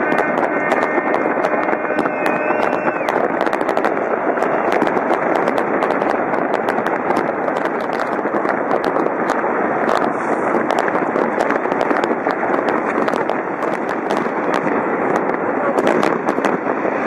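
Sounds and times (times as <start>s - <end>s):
fireworks cracking and popping: 0.0s - 17.0s.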